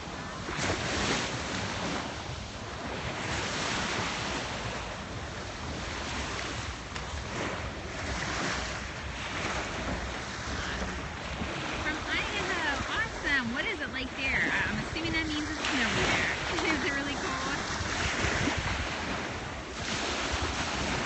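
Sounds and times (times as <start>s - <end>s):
small waves washing onto beach: 0.0s - 21.0s
wind blowing across microphone: 0.0s - 21.0s.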